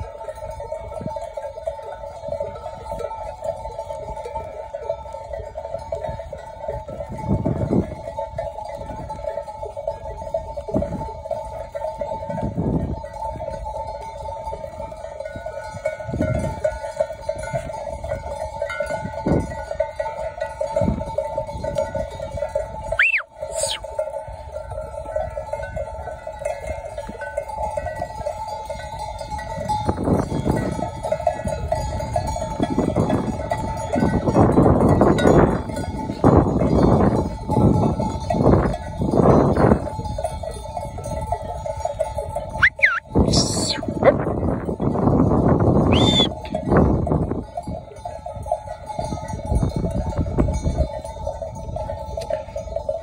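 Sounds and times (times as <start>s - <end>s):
sheep bells jangling: 0.0s - 53.0s.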